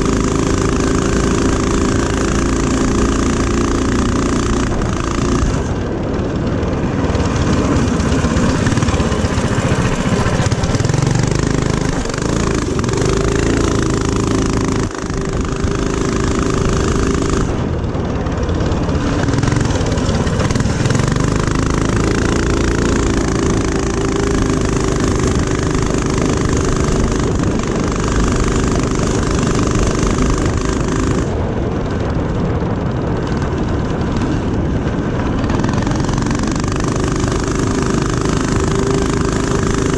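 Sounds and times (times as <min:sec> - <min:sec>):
mini-bike engine revving: 0:00.0 - 0:39.9.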